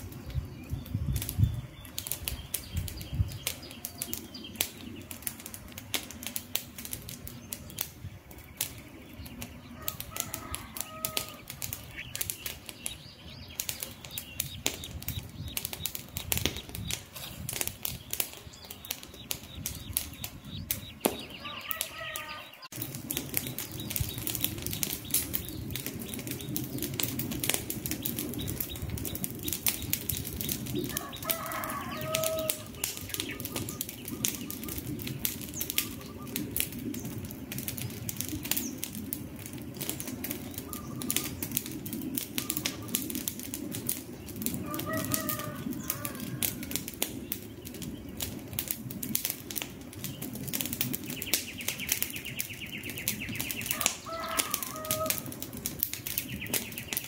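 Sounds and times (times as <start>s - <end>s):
flame rushing: 0.0s - 21.9s, 22.7s - 57.0s
campfire pops and snaps: 0.0s - 57.0s.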